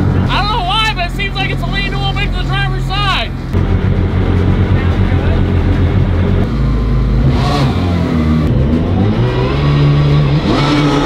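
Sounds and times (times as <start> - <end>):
jet boat engine revving: 0.0 - 11.0.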